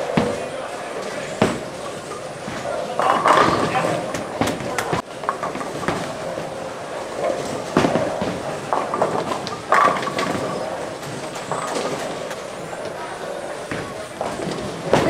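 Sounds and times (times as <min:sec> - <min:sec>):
bowling alley clatter: 0:00.0 - 0:15.0
bowling ball rolling on wooden lane: 0:00.0 - 0:15.0
bowling pins crashing: 0:00.0 - 0:15.0.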